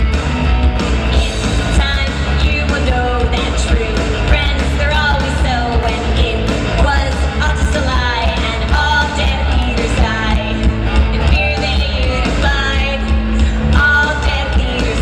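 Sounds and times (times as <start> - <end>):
live rock band: 0.0 - 15.0
person singing: 1.1 - 15.0.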